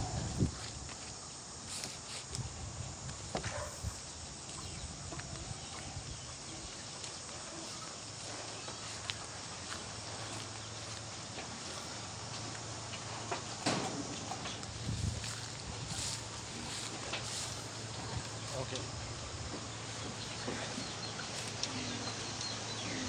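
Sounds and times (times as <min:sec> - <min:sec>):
steady background noise: 0:00.0 - 0:23.0.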